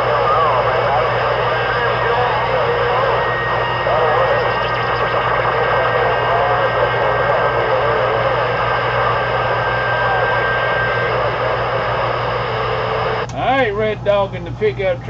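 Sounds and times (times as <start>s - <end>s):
faint wavering radio voice: 0.0s - 13.2s
radio static hiss: 0.0s - 13.9s
steady low hum: 0.0s - 15.0s.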